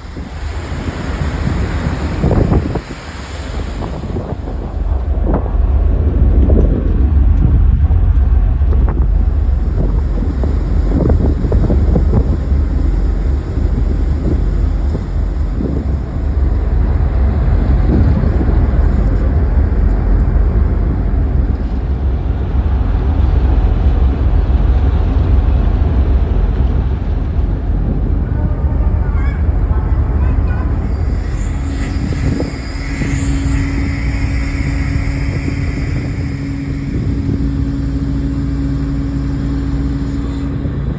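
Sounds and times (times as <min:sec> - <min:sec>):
low vehicle rumble: 0:00.0 - 0:40.9
wind buffeting microphone: 0:00.0 - 0:40.9.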